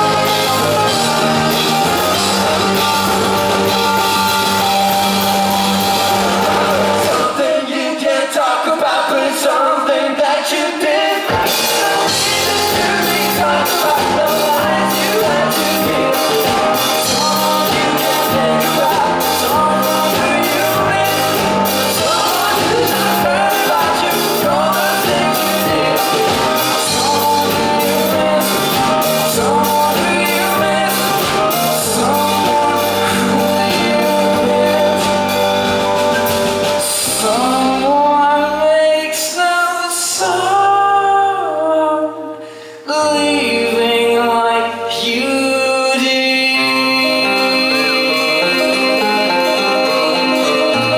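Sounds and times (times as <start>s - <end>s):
pop-rock band playing live: 0.0s - 8.2s, 10.2s - 50.9s
person singing: 0.0s - 50.9s.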